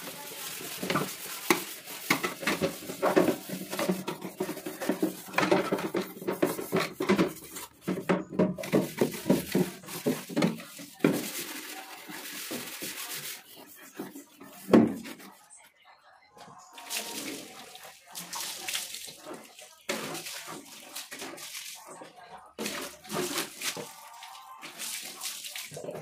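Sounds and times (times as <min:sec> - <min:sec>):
scrub pad rubbing plastic tub: 0:00.0 - 0:15.4, 0:16.8 - 0:26.0.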